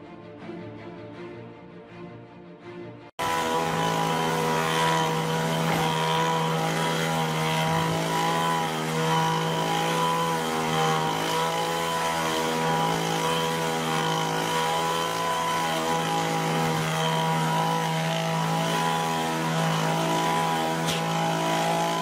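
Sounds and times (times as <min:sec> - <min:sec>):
hedge trimmer engine running: 0:03.2 - 0:22.0.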